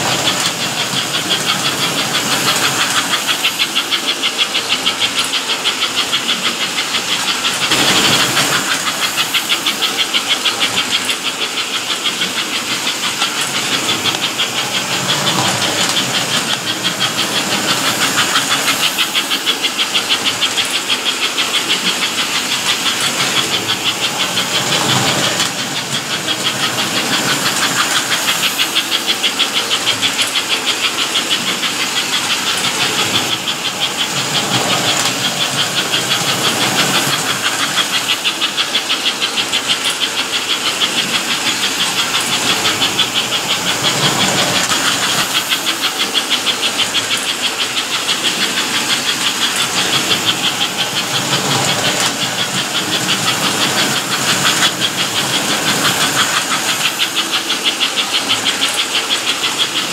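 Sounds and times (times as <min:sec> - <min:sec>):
model steam locomotive chuffing: 0:00.0 - 0:59.9
wheels and motor on metal track: 0:00.0 - 0:59.9.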